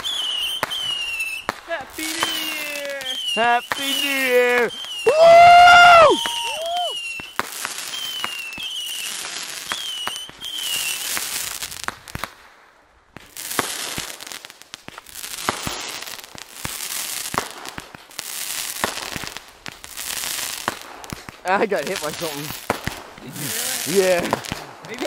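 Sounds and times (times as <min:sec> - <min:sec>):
fireworks whistling: 0:00.0 - 0:12.4, 0:13.2 - 0:25.0
fireworks popping and crackling: 0:00.0 - 0:25.0.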